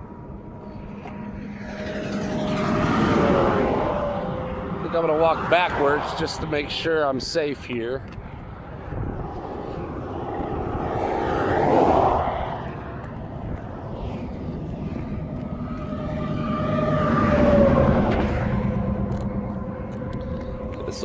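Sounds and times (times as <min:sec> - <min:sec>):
vehicles passing at highway speed: 0:00.0 - 0:21.0.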